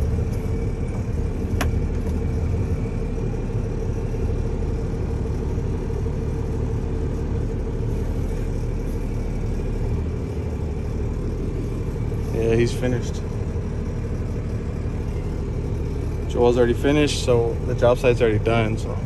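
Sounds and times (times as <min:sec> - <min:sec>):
truck diesel engine idling: 0:00.0 - 0:19.0.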